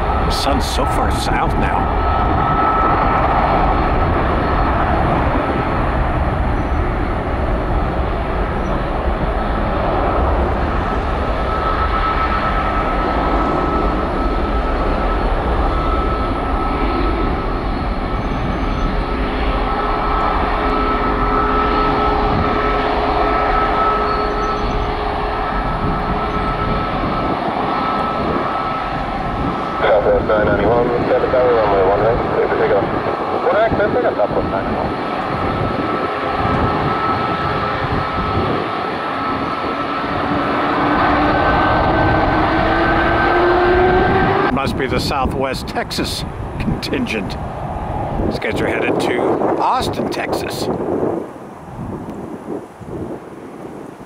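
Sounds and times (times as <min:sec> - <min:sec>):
lower engine whine: 0:00.0 - 0:50.1
jet engines at high thrust: 0:00.0 - 0:54.0.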